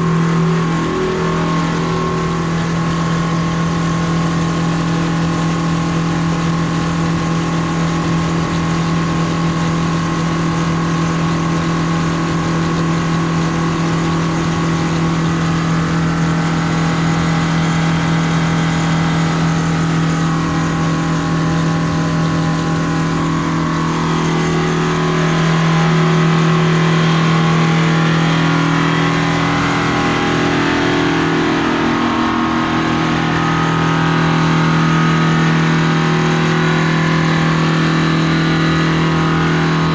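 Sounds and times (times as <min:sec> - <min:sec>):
combine harvester engine: 0:00.0 - 0:39.9.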